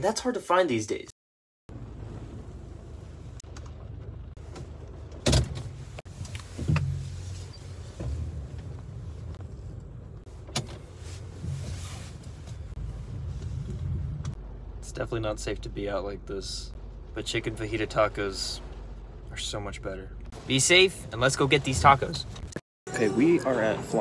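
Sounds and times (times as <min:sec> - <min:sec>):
car engine and tyres on wet road: 0:01.7 - 0:22.6.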